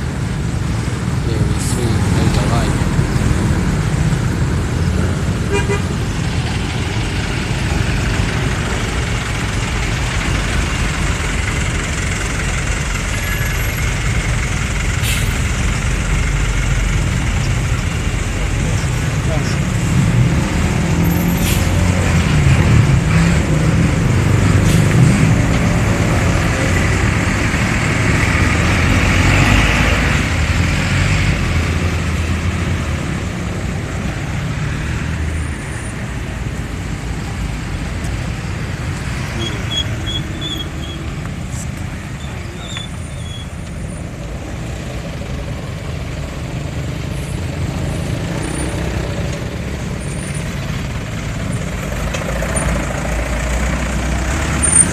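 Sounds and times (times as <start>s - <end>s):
diesel bus engine running: 0.0s - 54.9s
road traffic noise: 0.0s - 54.9s.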